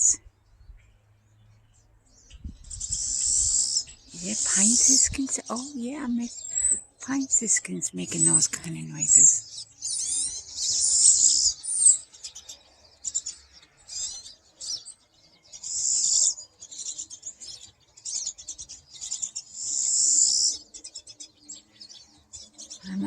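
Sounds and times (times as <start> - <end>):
pine siskins calling: 2.2 - 23.0.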